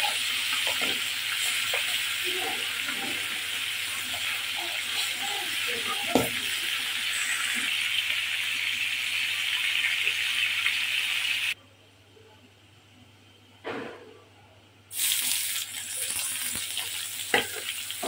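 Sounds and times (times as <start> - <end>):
fish sizzling in oil: 0.0 - 11.6, 14.9 - 18.0.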